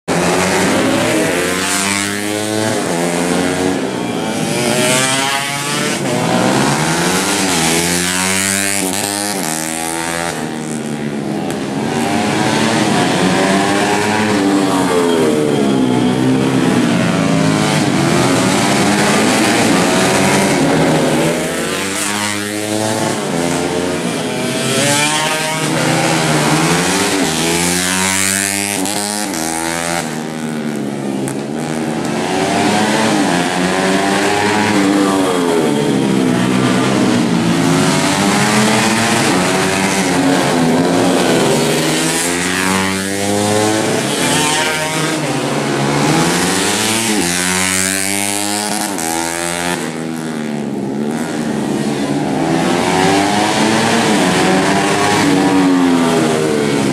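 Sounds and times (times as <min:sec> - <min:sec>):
racing motorcycles at full throttle: 0:00.0 - 0:56.9.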